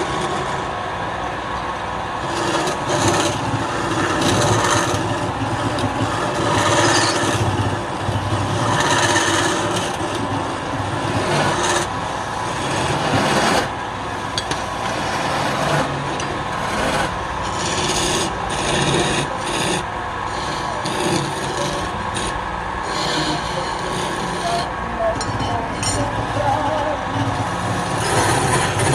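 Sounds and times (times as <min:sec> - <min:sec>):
wood scraping on a lathe: 0:00.0 - 0:01.2, 0:02.0 - 0:28.9.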